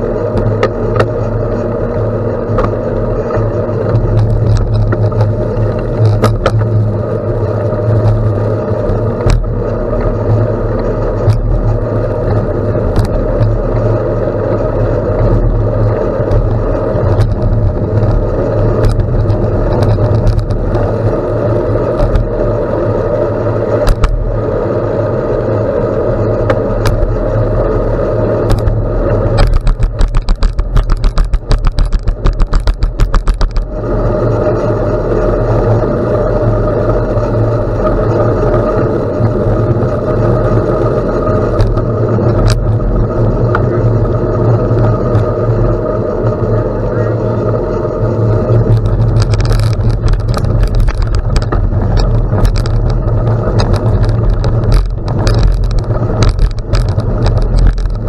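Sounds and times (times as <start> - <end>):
bicycle tyres rumbling on gravel: 0.0 - 58.0
rapid rattling clicks: 0.3 - 24.3, 26.2 - 46.6, 47.2 - 58.0.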